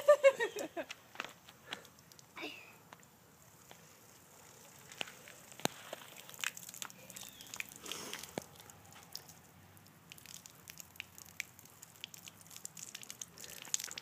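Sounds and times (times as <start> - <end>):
water dripping onto concrete: 0.5 - 14.0.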